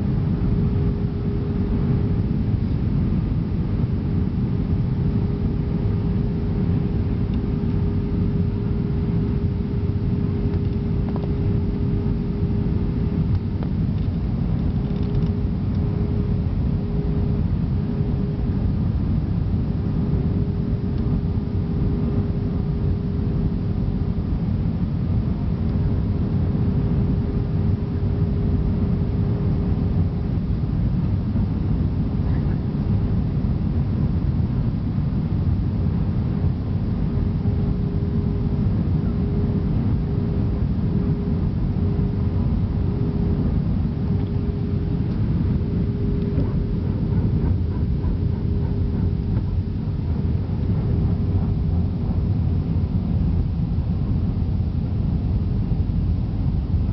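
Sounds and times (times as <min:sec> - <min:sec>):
airliner cabin rumble: 0:00.0 - 0:56.9
steady hum: 0:00.0 - 0:56.9.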